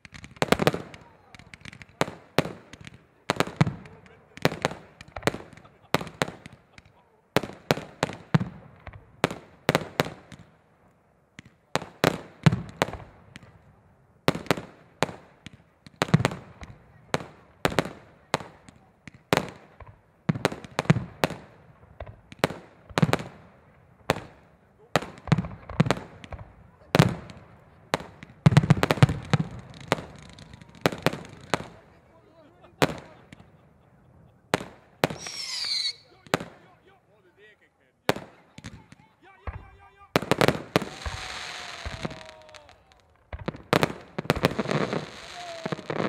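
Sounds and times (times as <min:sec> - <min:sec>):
fireworks bangs with echo: 0:00.0 - 0:10.7, 0:11.3 - 0:37.4, 0:38.0 - 0:46.0.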